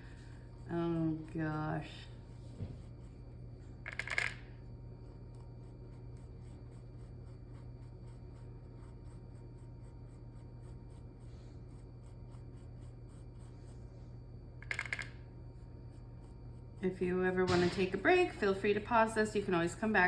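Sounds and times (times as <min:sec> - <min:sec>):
paintbrush strokes on canvas: 0:00.0 - 0:03.8, 0:05.0 - 0:14.3, 0:15.3 - 0:20.0
low steady hum: 0:00.0 - 0:20.0.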